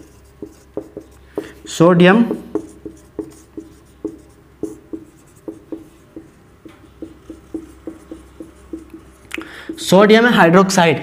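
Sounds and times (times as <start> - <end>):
marker writing on whiteboard: 0.0 - 10.4.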